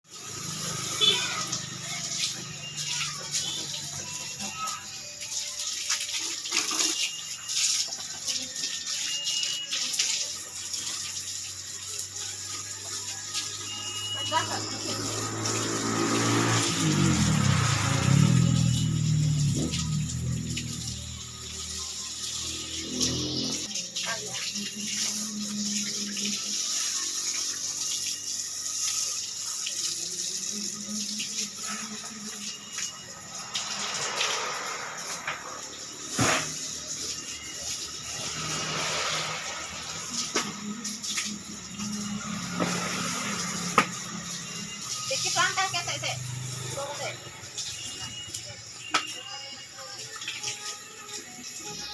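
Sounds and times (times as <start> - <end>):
water spraying from a hose: 0.0 - 51.9.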